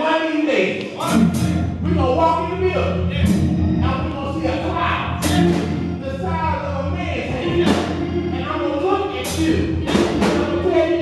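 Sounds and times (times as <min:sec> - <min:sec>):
organ or bass line: 0:00.9 - 0:11.0
voices singing: 0:01.0 - 0:11.0.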